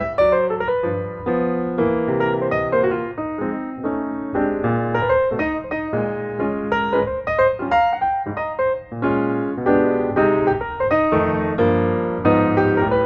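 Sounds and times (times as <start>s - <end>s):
piano tune over chords: 0.0s - 13.0s.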